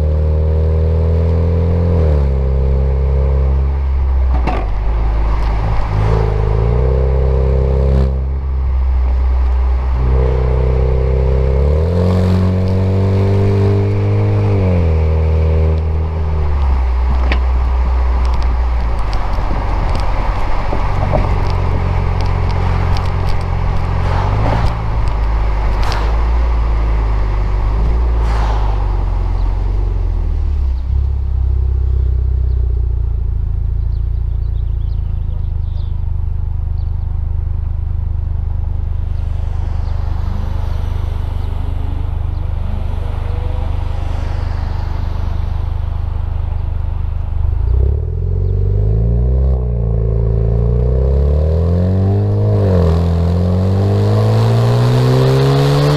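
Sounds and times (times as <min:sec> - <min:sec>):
deep car exhaust drone: 0:00.0 - 0:55.9.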